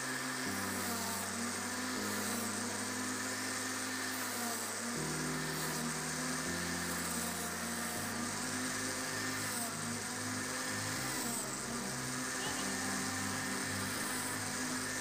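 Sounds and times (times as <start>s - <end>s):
background music: 0.0s - 15.0s
grinder sanding wood: 0.0s - 15.0s.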